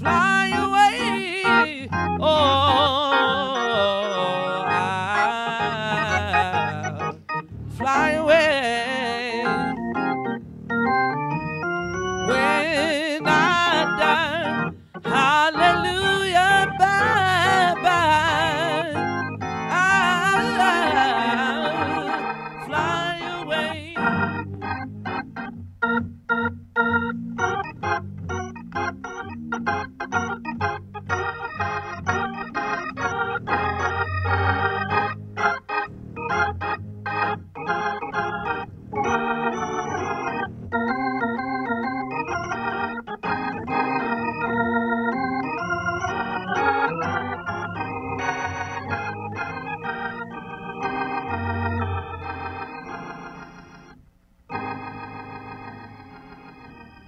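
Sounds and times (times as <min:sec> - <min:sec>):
organ music with held chords: 0:00.0 - 0:57.0.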